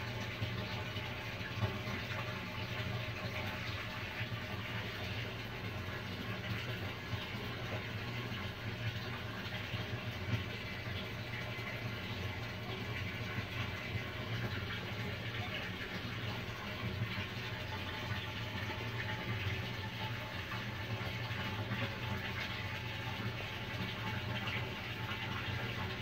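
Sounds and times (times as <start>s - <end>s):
aquarium equipment humming: 0.0s - 26.0s
bubbling running water: 0.0s - 26.0s.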